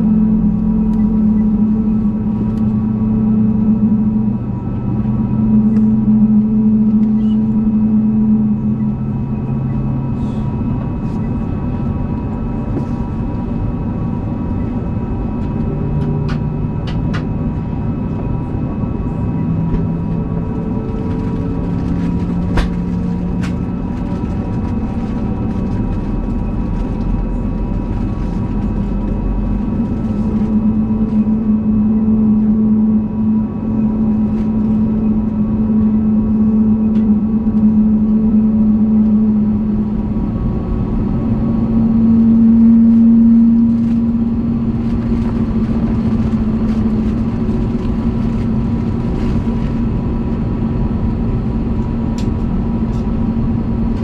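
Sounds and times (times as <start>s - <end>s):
aircraft engine cabin hum: 0.0s - 54.0s.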